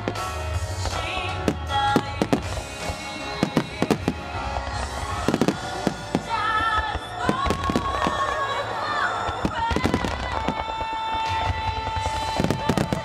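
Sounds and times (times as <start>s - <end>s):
fireworks bursting and crackling: 0.0s - 13.0s
music playing: 0.0s - 13.0s.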